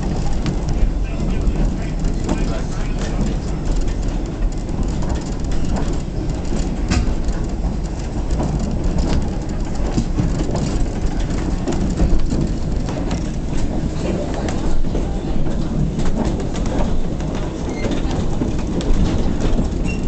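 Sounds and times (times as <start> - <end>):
sharp clicks and clanks: 0.0 - 20.0
train wheels rumbling on rail: 0.0 - 20.0.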